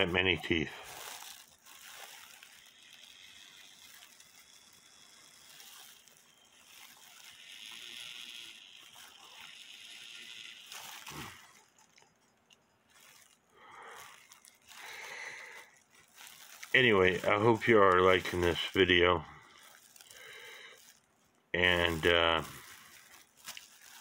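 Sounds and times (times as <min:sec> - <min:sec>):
plastic gloves rustling: 0:00.0 - 0:24.0.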